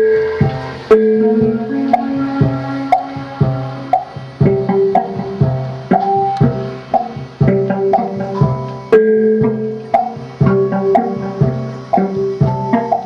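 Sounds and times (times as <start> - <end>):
percussion struck with beater: 0.0 - 13.0
ringing pitched notes: 0.0 - 13.0.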